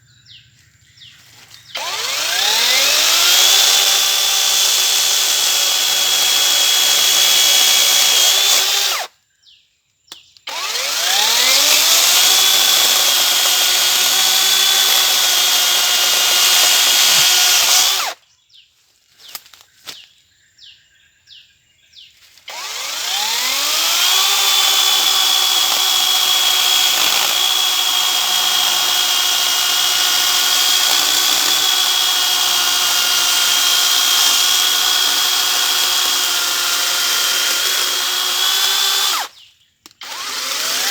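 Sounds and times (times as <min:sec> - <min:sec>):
electric chainsaw whining: 0:01.7 - 0:09.1, 0:10.5 - 0:18.2, 0:22.4 - 0:39.3, 0:40.0 - 0:40.9.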